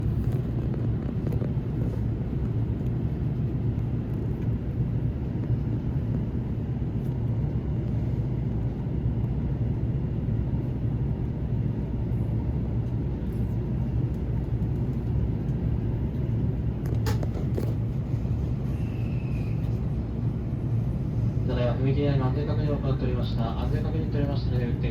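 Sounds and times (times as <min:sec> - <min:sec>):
train car rumble and hum: 0:00.0 - 0:24.9.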